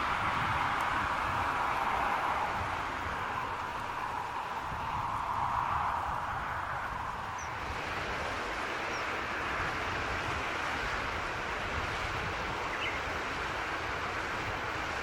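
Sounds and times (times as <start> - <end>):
outdoor rushing noise: 0.0 - 12.2.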